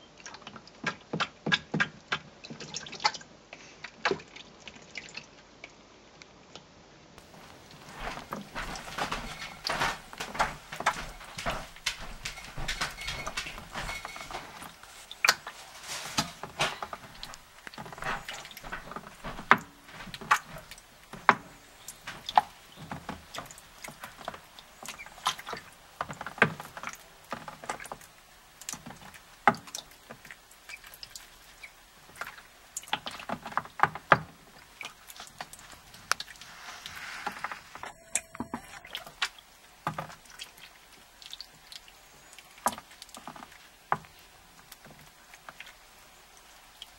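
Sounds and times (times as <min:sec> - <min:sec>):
ducklings splashing in water: 0:07.2 - 0:46.9.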